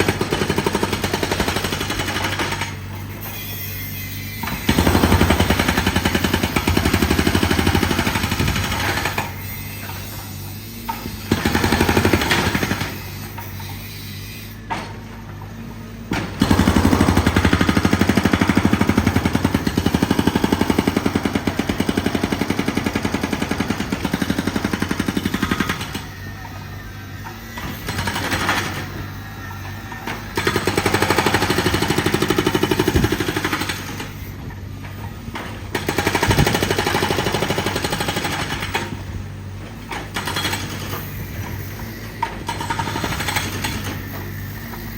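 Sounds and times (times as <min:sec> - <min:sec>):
jackhammer hammering: 0:00.0 - 0:03.7, 0:04.4 - 0:13.9, 0:16.1 - 0:26.6, 0:27.2 - 0:44.9.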